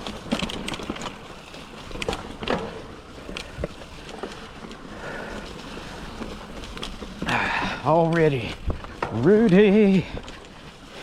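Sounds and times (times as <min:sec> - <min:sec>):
bike knocks and rattles: 0:00.0 - 0:10.7
bike tyre rolling on trail: 0:00.0 - 0:11.0.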